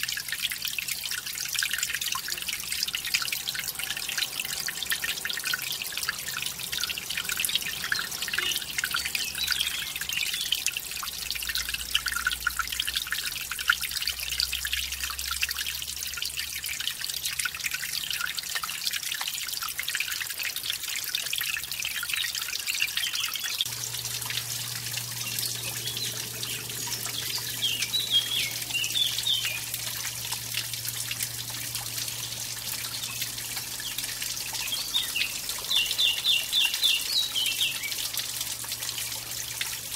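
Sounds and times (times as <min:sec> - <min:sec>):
stream splashing over waterfall: 0:00.0 - 0:39.9.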